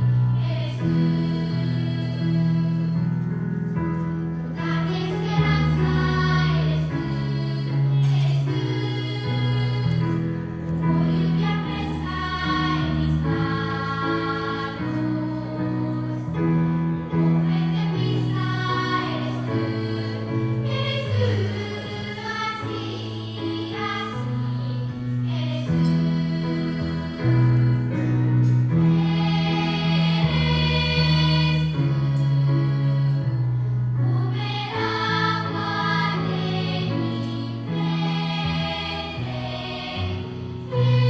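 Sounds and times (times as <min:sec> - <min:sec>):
girls' choir singing: 0:00.0 - 0:03.5, 0:04.3 - 0:41.0.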